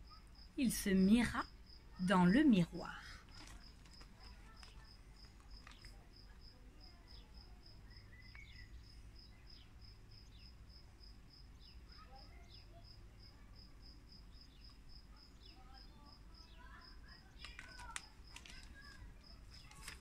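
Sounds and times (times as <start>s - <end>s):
cricket chirping: 0.0s - 19.8s.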